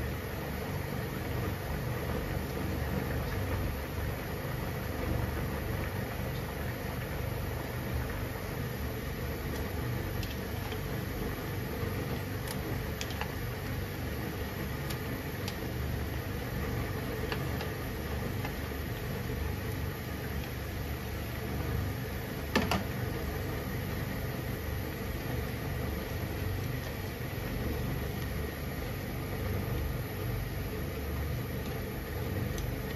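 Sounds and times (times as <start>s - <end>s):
water boiling with bubbling rumble: 0.0s - 32.9s.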